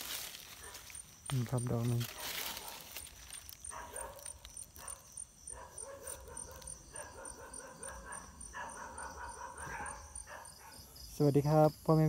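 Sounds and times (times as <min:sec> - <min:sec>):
frogs croaking in chorus: 0:00.0 - 0:12.0
faint insect ticking: 0:00.5 - 0:02.1, 0:02.7 - 0:12.0.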